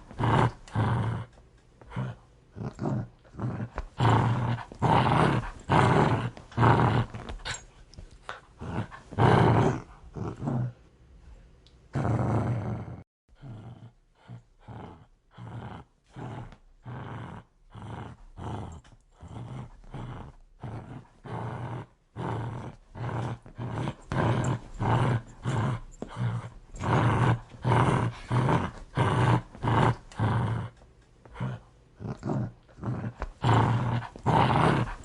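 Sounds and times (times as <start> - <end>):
dog growling: 0.0 - 7.7, 8.3 - 10.8, 11.9 - 35.0.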